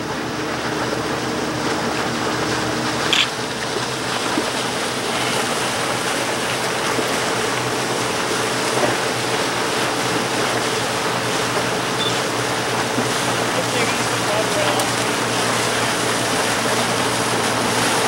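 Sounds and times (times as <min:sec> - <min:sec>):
river water rushing: 0:00.0 - 0:18.0
wind: 0:00.0 - 0:18.0.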